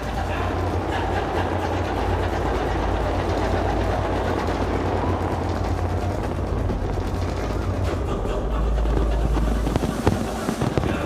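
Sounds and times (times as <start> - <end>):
fireworks barrage rumbling: 0.0 - 11.0.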